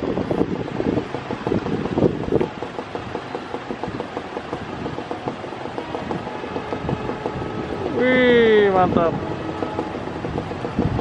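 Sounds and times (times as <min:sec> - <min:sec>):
clicking and rattling on track: 0:00.0 - 0:11.0
train approaching rumble: 0:00.0 - 0:11.0.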